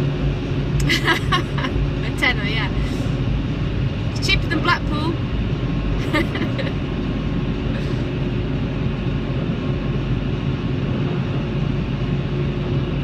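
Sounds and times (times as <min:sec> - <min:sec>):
car cabin hum and rumble: 0:00.0 - 0:13.0.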